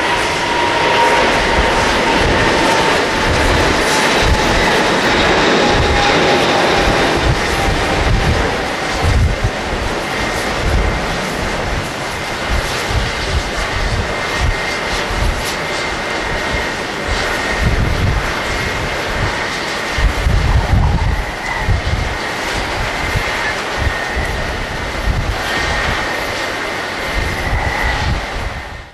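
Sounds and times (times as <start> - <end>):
jet engines at takeoff: 0.0 - 28.9.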